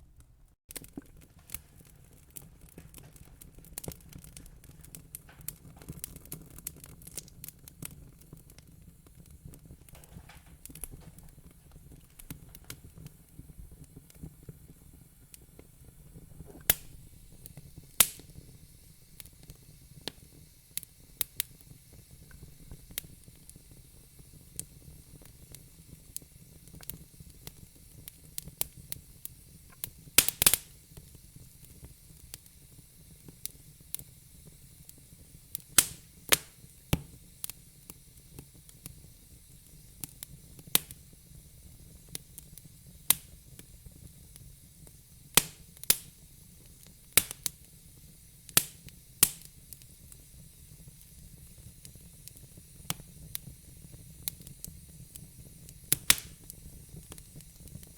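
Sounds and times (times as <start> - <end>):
faint low hiss: 0.0 - 57.9
fire crackling: 0.0 - 57.9.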